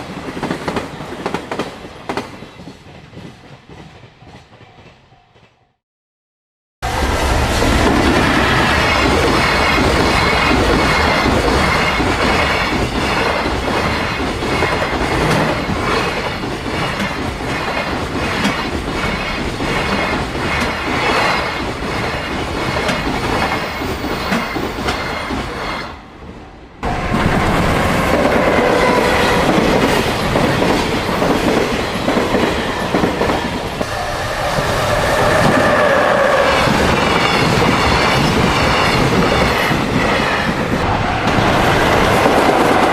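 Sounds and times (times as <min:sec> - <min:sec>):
freight train passing: 0:00.0 - 0:05.8, 0:06.8 - 0:42.9.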